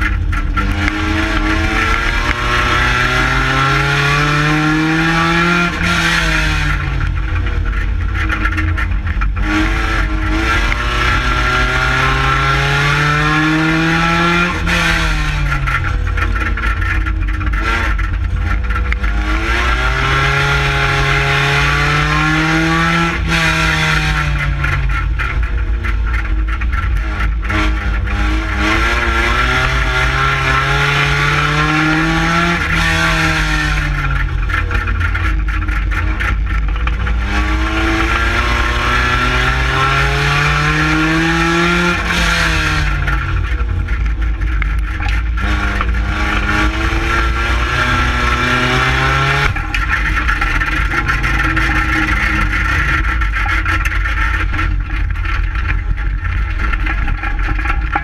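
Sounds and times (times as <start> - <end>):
car engine revving: 0.0 - 58.0
steady rushing noise: 0.0 - 58.0.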